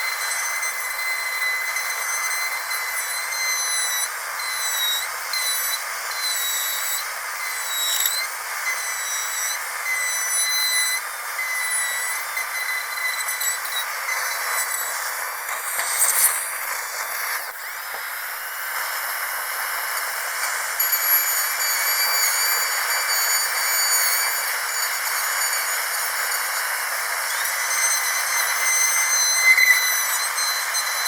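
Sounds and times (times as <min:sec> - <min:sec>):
dental drill whining: 0:00.0 - 0:31.0.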